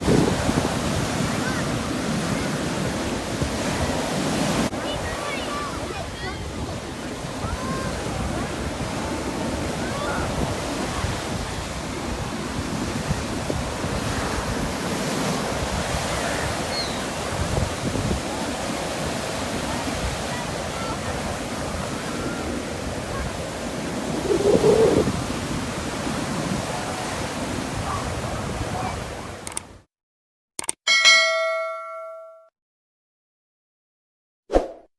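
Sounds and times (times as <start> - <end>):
sea waves breaking: 0.0 - 29.4
wind buffeting microphone: 0.0 - 29.4.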